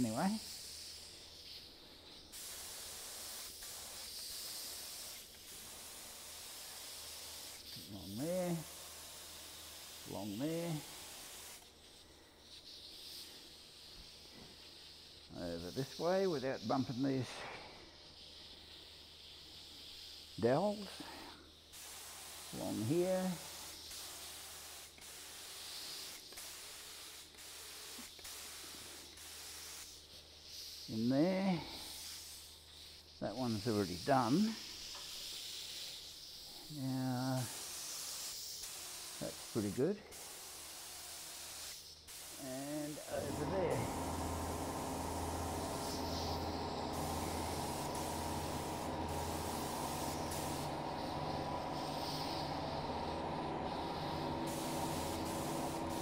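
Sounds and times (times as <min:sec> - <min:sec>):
paint sprayer hissing: 0:00.0 - 0:56.0.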